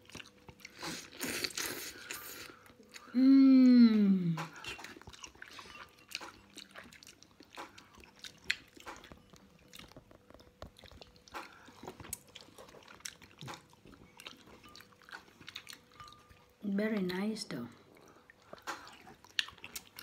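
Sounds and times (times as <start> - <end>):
person chewing noodles: 0.0 - 16.6, 17.9 - 20.0.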